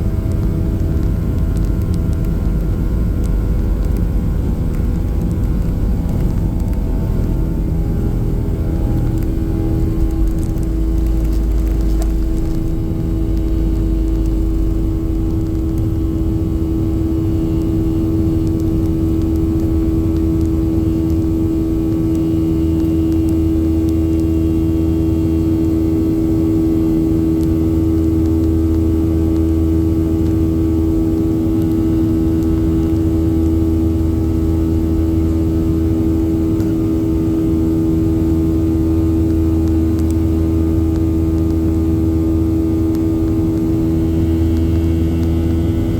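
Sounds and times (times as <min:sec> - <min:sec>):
jet engines drone in cabin: 0:00.0 - 0:45.9.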